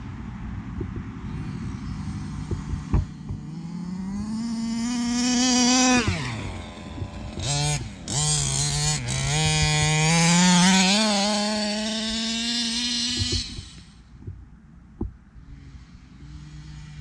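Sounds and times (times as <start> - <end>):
two-stroke engine revving: 0.0 - 14.4, 15.0 - 17.0.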